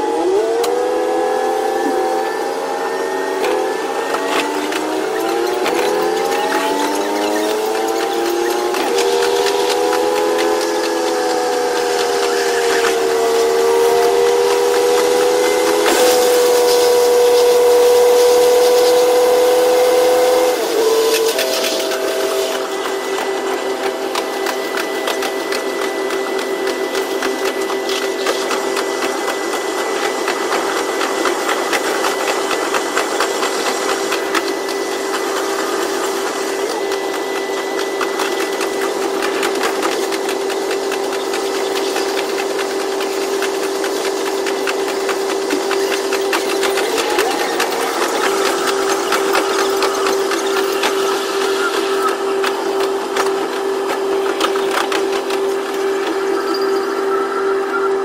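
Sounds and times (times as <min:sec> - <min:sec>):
diesel railcar engine whine: 0:00.0 - 0:58.0.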